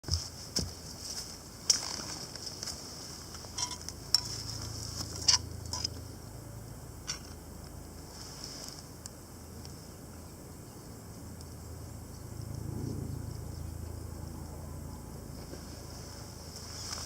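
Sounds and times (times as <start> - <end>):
insects chirring: 0.5 - 17.0.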